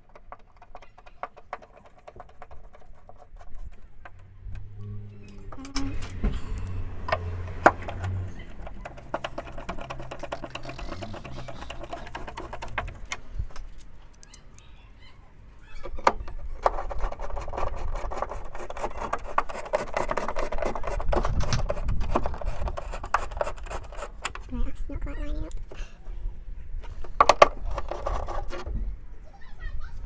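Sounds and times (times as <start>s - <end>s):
rapid ticking and rubbing: 0.0s - 4.4s, 5.3s - 14.0s, 15.8s - 28.9s
metal fittings clicking and knocking: 0.0s - 14.4s, 15.8s - 24.5s, 26.8s - 28.8s.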